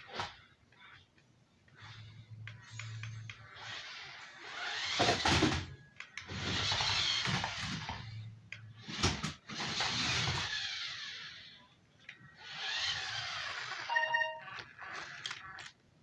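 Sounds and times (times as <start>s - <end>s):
toy car motor and tyres: 0.0s - 15.8s.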